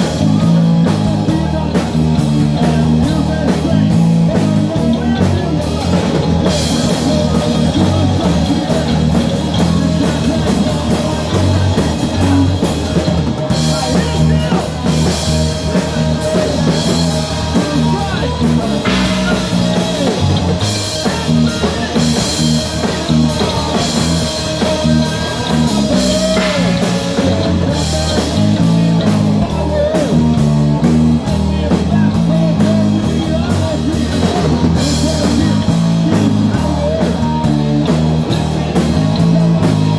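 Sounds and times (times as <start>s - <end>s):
bass guitar: 0.0s - 39.9s
drum kit with cymbals: 0.0s - 39.9s
electric guitar: 0.0s - 39.9s
person singing: 0.0s - 39.9s.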